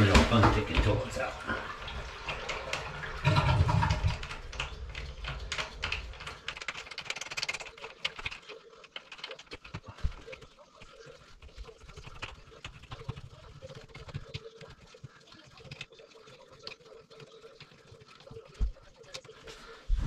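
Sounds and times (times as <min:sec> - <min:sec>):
faint clicks and scraping: 0:00.1 - 0:20.0.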